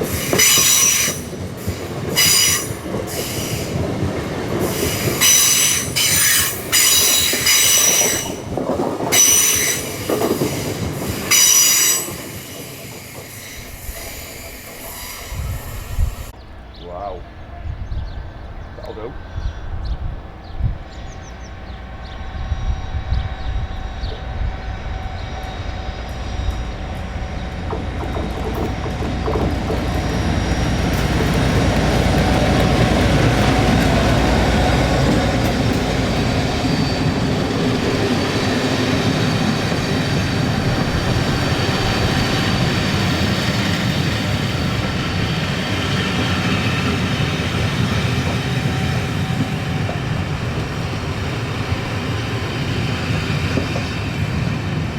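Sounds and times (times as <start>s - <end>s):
train engine rumble: 0.0s - 54.9s
train wheels rolling on rails: 0.0s - 54.9s.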